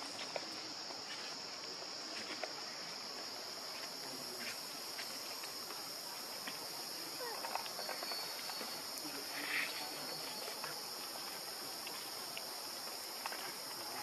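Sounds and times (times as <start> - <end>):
insects droning in chorus: 0.0 - 14.0.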